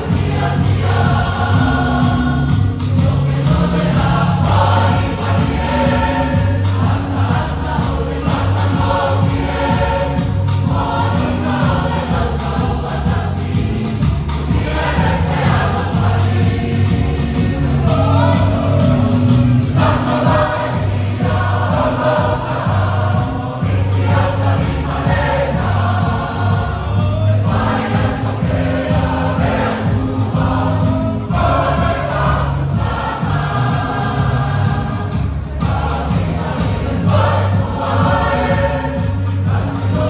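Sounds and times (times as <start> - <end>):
choir singing a hymn: 0.0 - 40.0
low accompaniment: 0.0 - 40.0.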